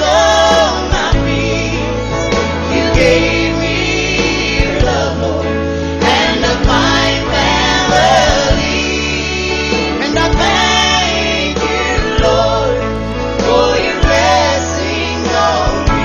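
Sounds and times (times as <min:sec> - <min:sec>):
bass-led instrumental backing: 0:00.0 - 0:16.0
gospel voices singing together: 0:00.0 - 0:16.0.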